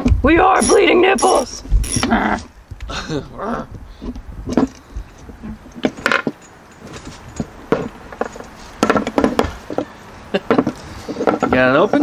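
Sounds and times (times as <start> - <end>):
metal clinks and knocks: 0.0 - 2.1, 4.0 - 12.0.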